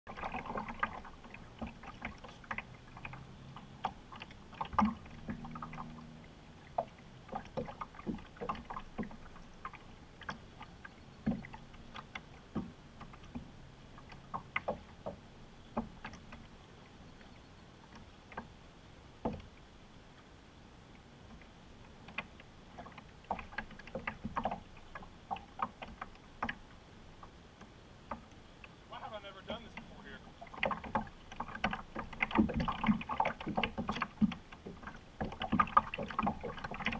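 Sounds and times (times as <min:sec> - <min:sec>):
water lapping: 0:00.1 - 0:36.9.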